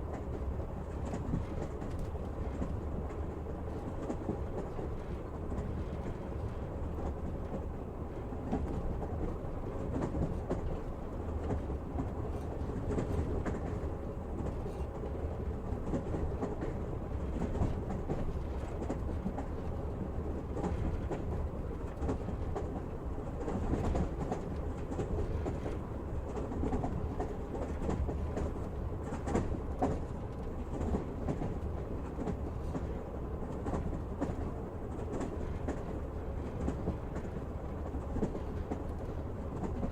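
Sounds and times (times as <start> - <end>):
train carriage rumbling on track: 0.0 - 39.9
train rattling: 0.0 - 39.9.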